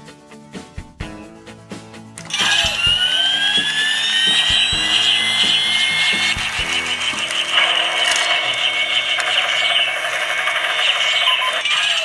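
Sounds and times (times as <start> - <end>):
toy helicopter buzzing whir: 2.2 - 12.0.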